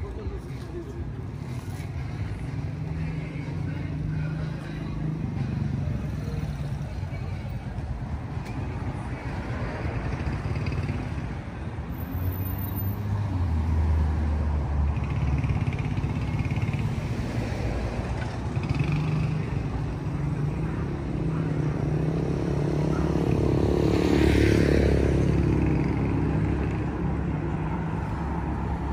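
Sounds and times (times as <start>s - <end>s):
street traffic passing: 0.0s - 28.9s.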